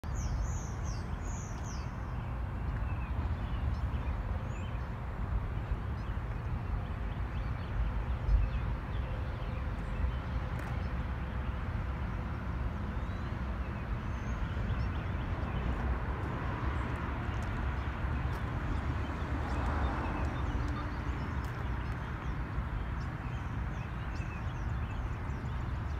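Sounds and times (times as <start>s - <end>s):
distant traffic rumble: 0.0s - 25.9s.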